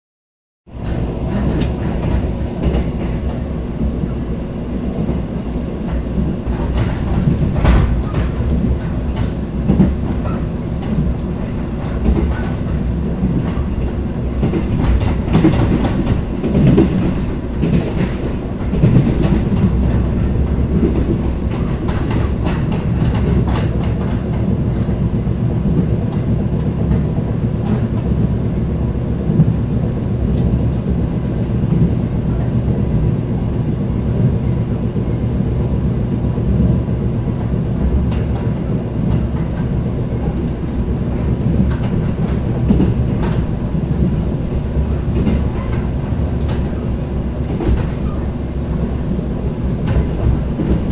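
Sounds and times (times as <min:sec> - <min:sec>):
train rumbling on track: 0:00.7 - 0:50.9.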